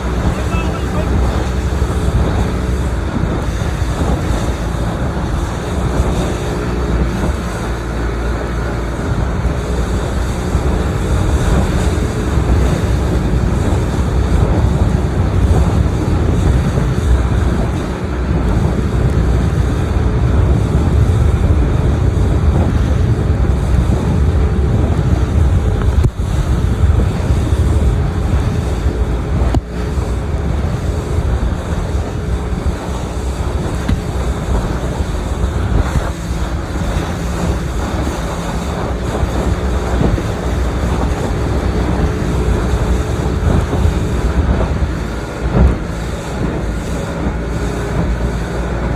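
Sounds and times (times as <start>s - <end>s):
boat motor running: 0.0s - 48.9s
wind buffeting microphone: 0.0s - 48.9s.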